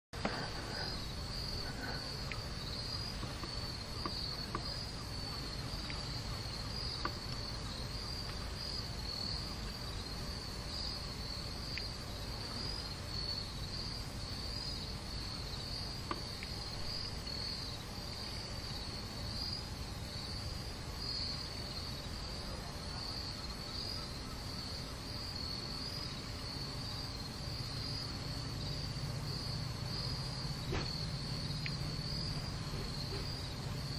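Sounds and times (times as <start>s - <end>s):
insects trilling: 0.2s - 33.9s.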